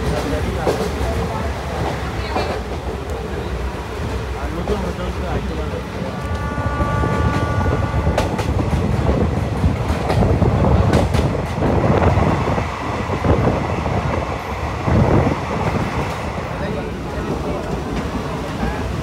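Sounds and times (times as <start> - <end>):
train wheel and track noise: 0.0 - 19.0.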